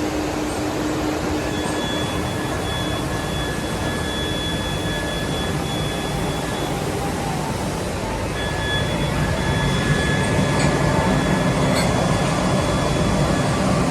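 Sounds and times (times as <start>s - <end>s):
faint high whine: 0.0s - 13.9s
machine mechanical hum: 0.0s - 13.9s.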